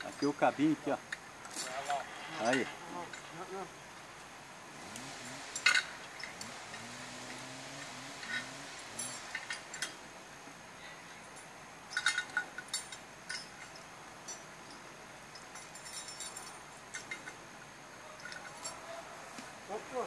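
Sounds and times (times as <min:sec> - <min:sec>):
metallic cable clinks: 0:00.0 - 0:03.7, 0:04.8 - 0:10.1, 0:11.2 - 0:17.4, 0:18.0 - 0:19.2.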